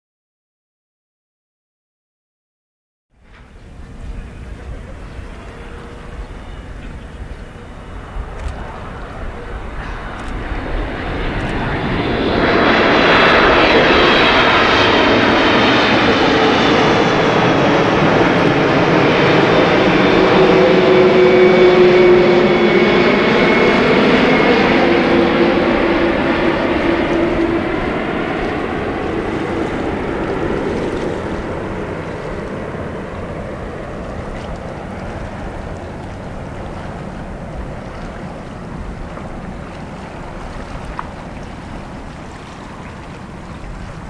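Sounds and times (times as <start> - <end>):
jet airliner passing overhead: 3.2 - 44.0.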